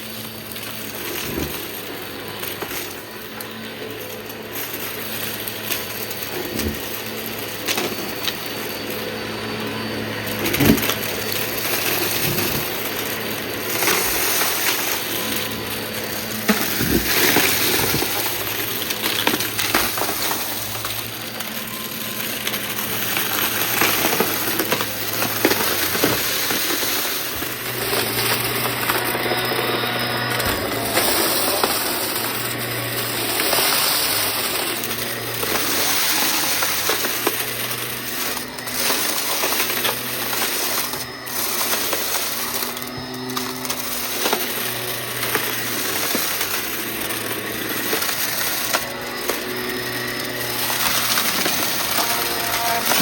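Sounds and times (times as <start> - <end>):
debris clicking and rattling: 0.0 - 53.0
vacuum cleaner running: 0.0 - 53.0.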